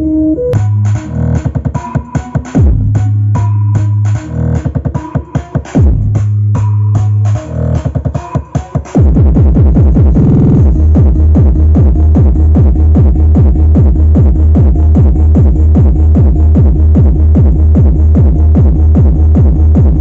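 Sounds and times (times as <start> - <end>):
electronic dance music: 0.0 - 20.0.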